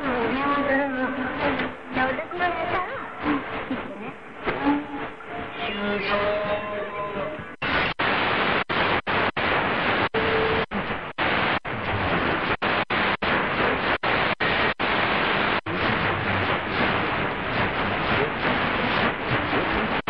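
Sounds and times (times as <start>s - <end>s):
faint radio tone: 0.0s - 20.0s
radio static and hiss: 0.0s - 20.0s.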